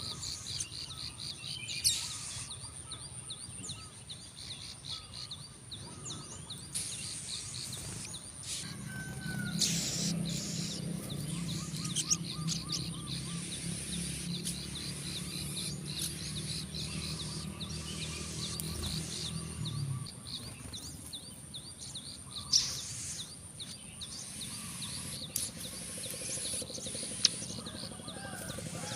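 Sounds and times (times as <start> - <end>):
birds chirping rapidly: 0.0 - 28.9.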